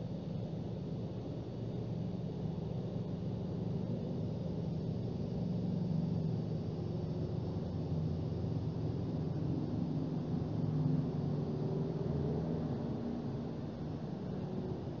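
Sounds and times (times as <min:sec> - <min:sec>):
low hum and rumble: 0:00.0 - 0:15.0.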